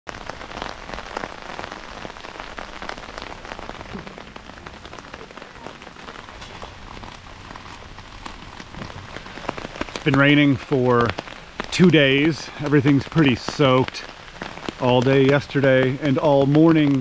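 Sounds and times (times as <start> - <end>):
heavy rain falling: 0.1 - 17.0
raindrops ticking close by: 0.1 - 17.0.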